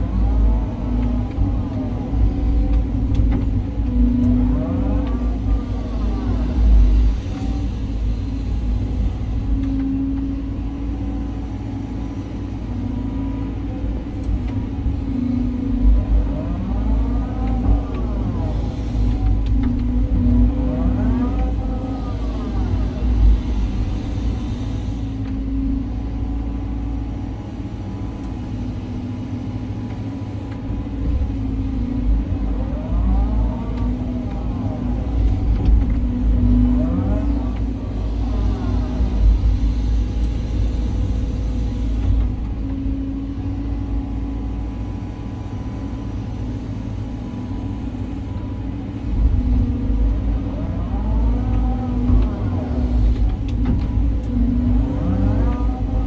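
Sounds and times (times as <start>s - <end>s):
excavator engine running: 0.0s - 56.0s
hydraulic whine: 0.0s - 56.0s.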